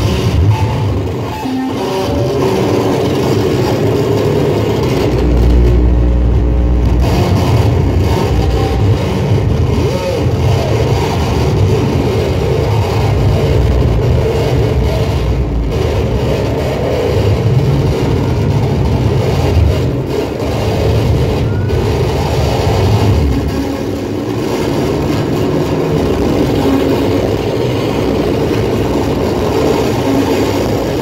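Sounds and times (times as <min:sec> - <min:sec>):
deep low rumble: 0:00.0 - 0:31.0
droning noise music: 0:00.0 - 0:31.0.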